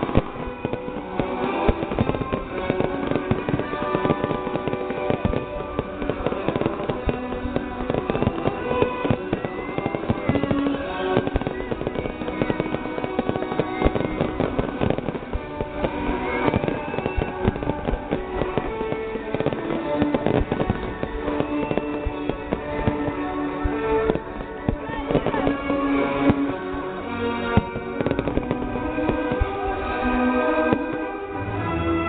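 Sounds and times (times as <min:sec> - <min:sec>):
fireworks bangs and crackles: 0:00.0 - 0:32.0
music playing: 0:00.0 - 0:32.0.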